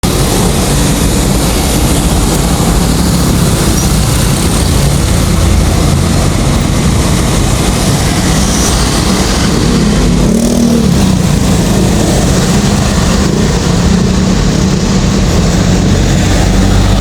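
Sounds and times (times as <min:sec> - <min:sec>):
street traffic engines: 0:00.0 - 0:17.0.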